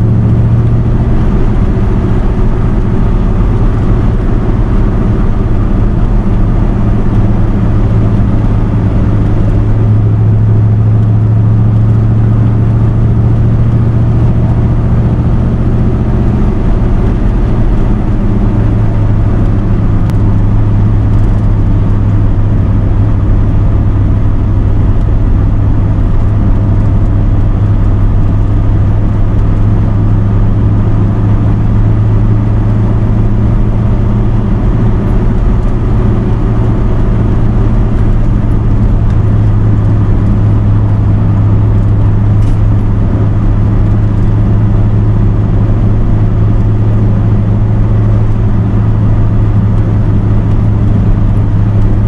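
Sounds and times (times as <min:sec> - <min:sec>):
pickup engine cruising drone: 0:00.0 - 0:52.0
road noise: 0:00.0 - 0:52.0.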